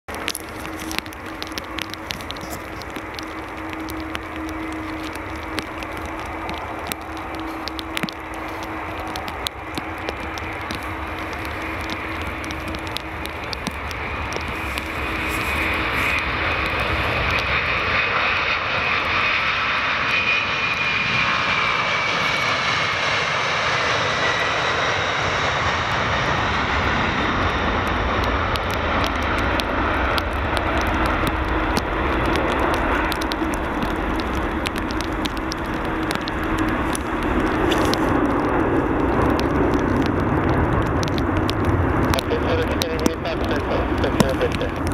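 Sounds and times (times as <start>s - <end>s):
high jet whine falling in pitch: 0.1s - 44.9s
jet engines at takeoff power: 0.1s - 44.9s.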